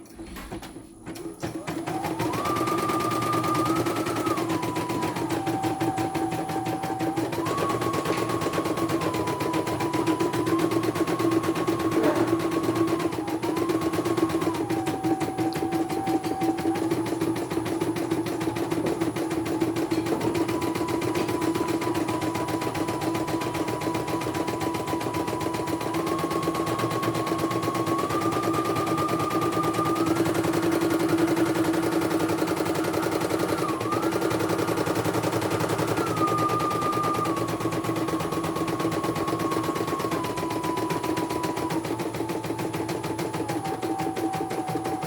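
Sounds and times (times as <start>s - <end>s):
motor whine changing pitch: 1.8s - 45.0s.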